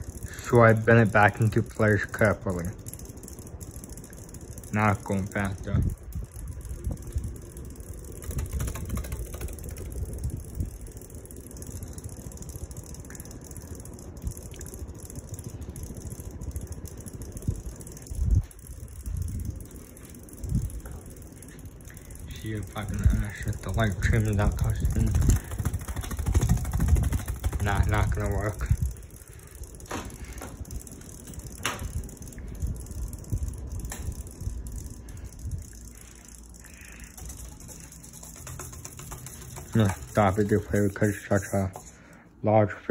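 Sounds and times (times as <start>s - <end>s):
sharp clicks: 0.0s - 42.2s
ceiling fan whirring: 0.0s - 42.9s.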